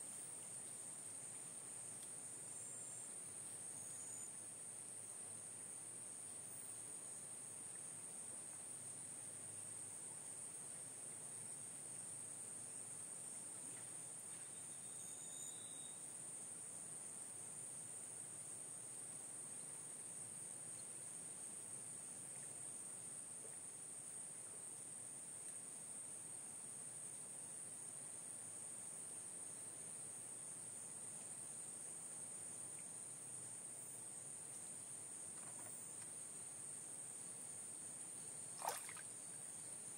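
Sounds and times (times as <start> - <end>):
insects chorus: 0.0 - 10.0, 10.8 - 24.3, 28.4 - 39.9.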